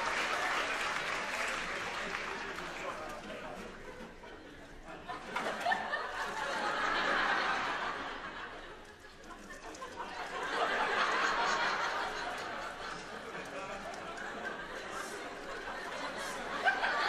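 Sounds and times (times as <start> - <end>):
audience laughing: 1.3 - 17.0.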